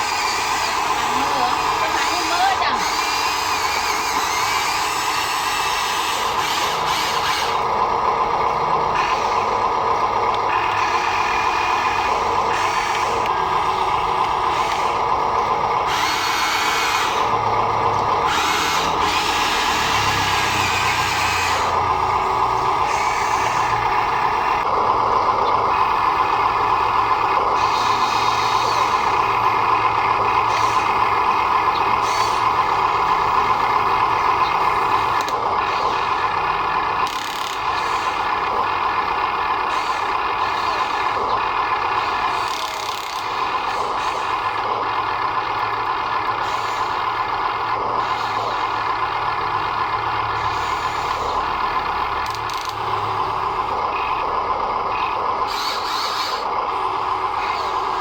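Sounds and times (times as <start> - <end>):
high-pitched grinding: 0.0 - 44.6, 48.0 - 58.0
small electric motors whining: 0.0 - 58.0.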